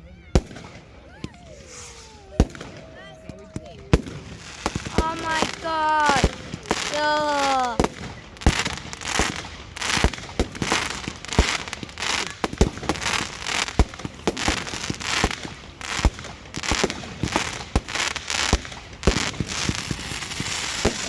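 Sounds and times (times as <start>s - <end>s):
fireworks bangs: 0.2s - 21.0s
fireworks crackling: 0.2s - 21.0s.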